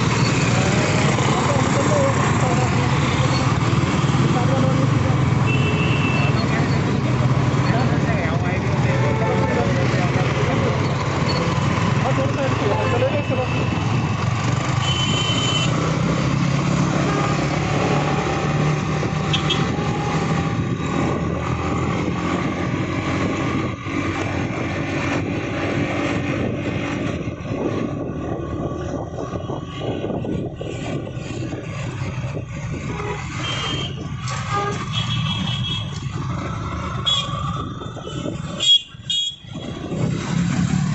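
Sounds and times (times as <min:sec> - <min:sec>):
road noise: 0:00.0 - 0:40.9.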